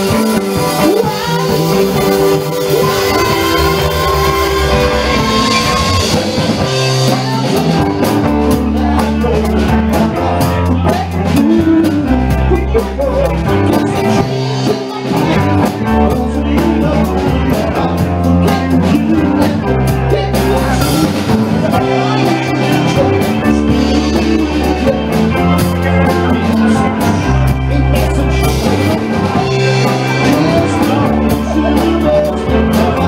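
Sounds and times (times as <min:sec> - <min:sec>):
man singing into a microphone: 0:00.0 - 0:33.0
rock band playing: 0:00.0 - 0:33.0.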